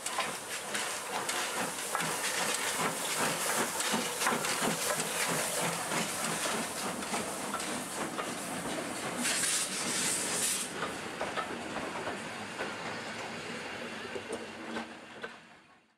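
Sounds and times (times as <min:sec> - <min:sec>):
hissing steam: 0:00.0 - 0:13.9
steam train running: 0:00.0 - 0:15.8.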